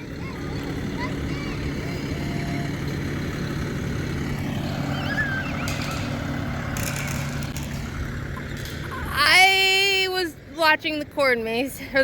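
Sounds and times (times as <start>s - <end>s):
distant voices calling: 0.0s - 12.0s
engine humming: 0.0s - 12.0s.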